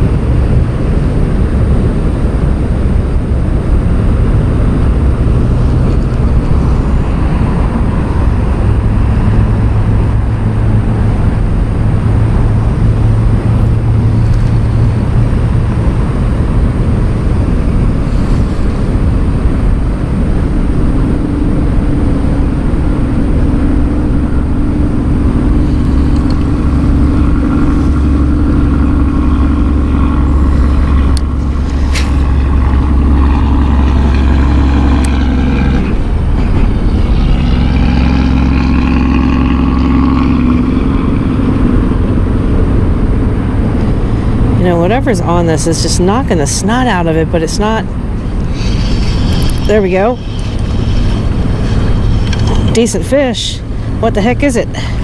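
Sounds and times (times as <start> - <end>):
low traffic rumble: 0.0 - 55.0
vehicles passing: 0.0 - 55.0.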